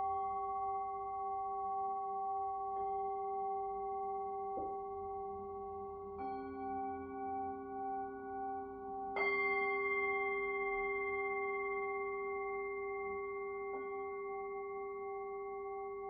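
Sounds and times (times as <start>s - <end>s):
singing bowls struck and ringing: 0.0s - 16.0s.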